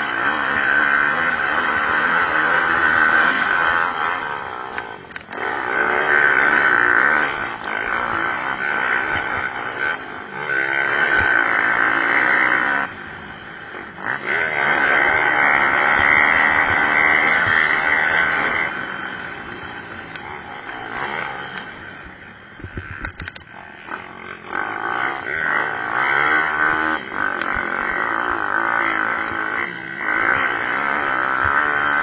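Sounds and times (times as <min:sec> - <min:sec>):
pit bike engines revving: 0:00.0 - 0:32.0.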